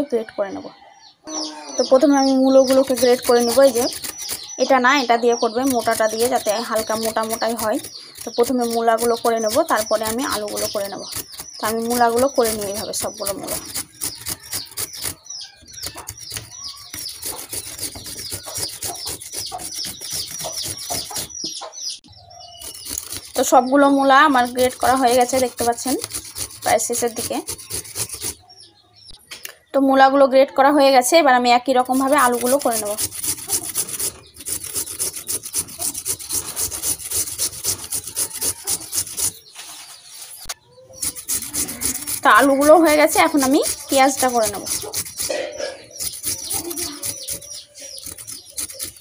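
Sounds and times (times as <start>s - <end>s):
radish grated on metal grater: 2.5s - 21.3s, 22.4s - 28.4s, 31.9s - 39.5s, 40.9s - 49.0s.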